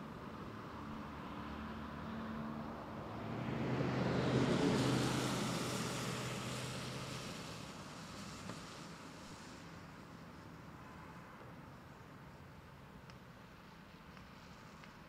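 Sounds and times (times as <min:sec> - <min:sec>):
car passing on wet road: 0:00.0 - 0:15.0.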